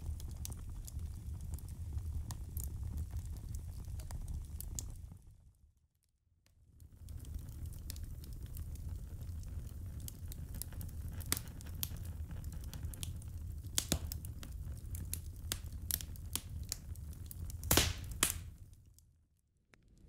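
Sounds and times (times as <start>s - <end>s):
wood embers crackling and popping: 0.0s - 5.5s, 6.6s - 19.1s.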